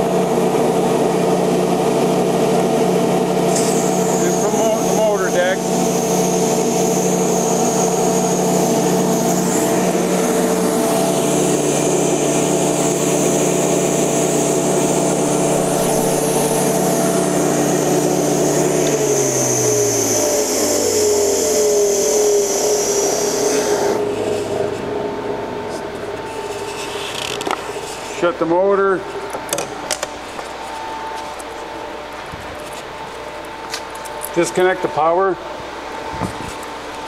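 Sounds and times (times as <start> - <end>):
vacuum motor humming with whine: 0.0 - 37.0.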